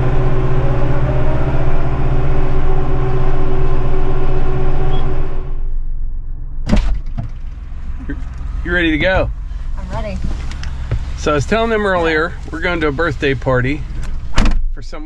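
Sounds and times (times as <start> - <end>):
vehicle engine running under load: 0.0 - 14.4.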